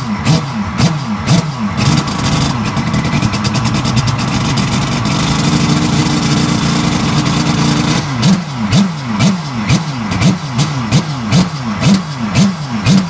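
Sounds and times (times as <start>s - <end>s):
rotary engine running with pops: 0.0s - 13.0s.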